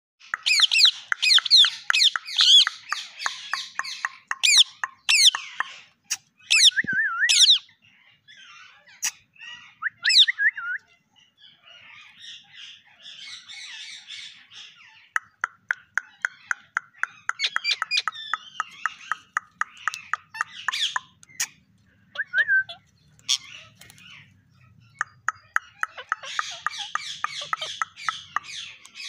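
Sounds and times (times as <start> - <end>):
parakeets chattering: 0.2 - 10.2, 11.2 - 29.0
parakeets screeching: 0.3 - 10.3, 11.2 - 29.0.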